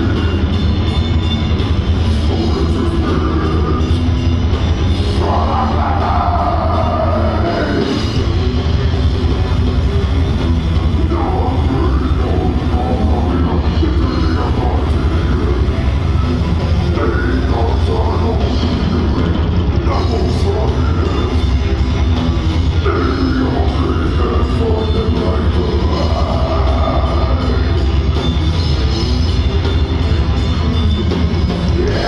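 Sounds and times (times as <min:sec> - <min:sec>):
drums: 0:00.0 - 0:32.0
heavy metal band playing live: 0:00.0 - 0:32.0.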